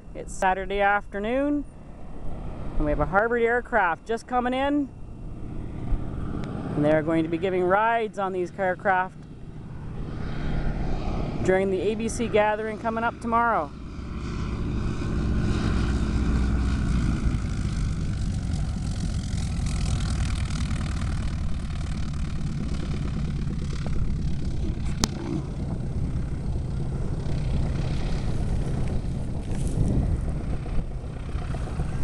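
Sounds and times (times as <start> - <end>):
propeller aircraft engine: 0.0 - 32.0.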